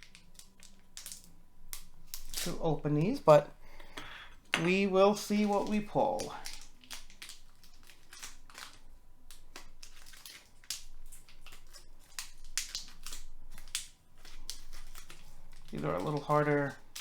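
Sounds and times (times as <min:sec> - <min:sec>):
wrapper rustling and crinkling: 0:00.0 - 0:03.6, 0:04.7 - 0:17.0.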